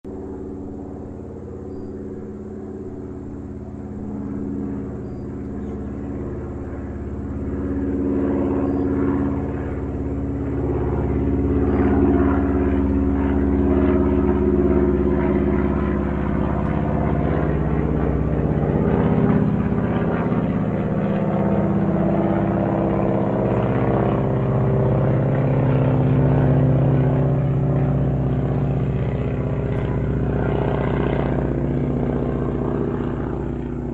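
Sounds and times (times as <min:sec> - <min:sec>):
airplane engine droning overhead: 0:00.0 - 0:33.9.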